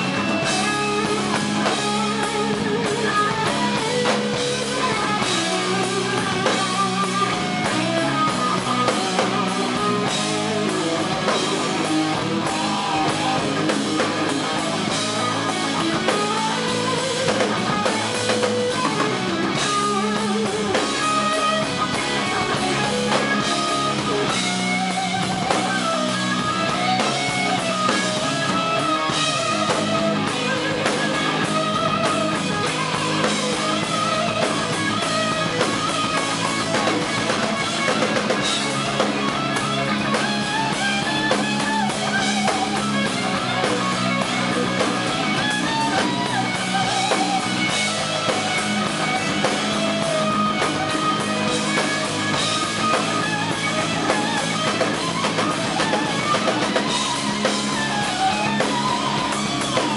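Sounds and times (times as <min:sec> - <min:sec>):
electric guitar solo with bent notes: 0:00.0 - 0:59.9
live rock band playing: 0:00.0 - 0:59.9.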